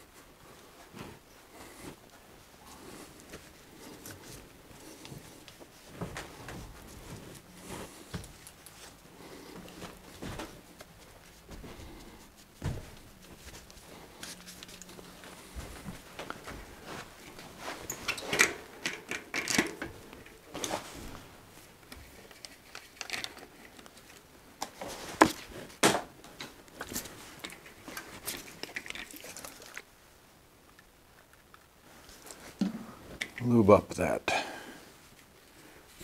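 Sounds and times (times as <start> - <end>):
rag rustling: 0.0 - 33.6.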